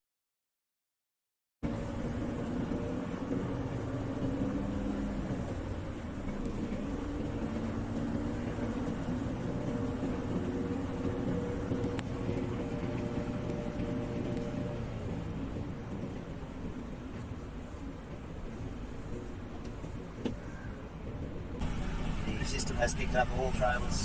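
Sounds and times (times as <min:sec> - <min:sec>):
truck diesel engine running: 0:01.6 - 0:20.2, 0:21.6 - 0:24.0.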